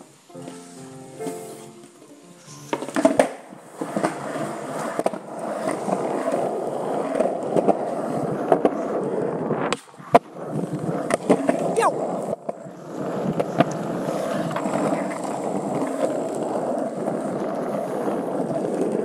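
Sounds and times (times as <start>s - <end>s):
skateboard wheels rolling on concrete: 0.0s - 19.0s
skateboard clacks: 2.7s - 19.0s.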